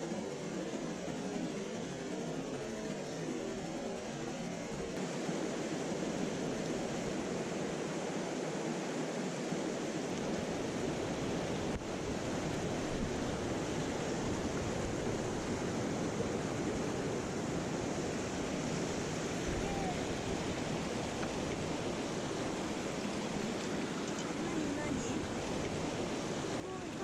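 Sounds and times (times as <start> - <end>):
mountain stream water rushing: 0.0 - 27.0.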